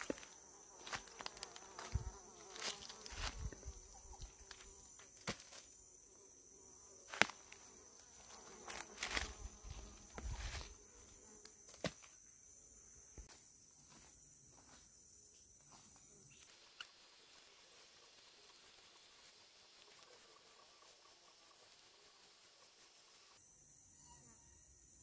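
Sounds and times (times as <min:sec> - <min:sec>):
insect buzzing: 0:00.0 - 0:25.0.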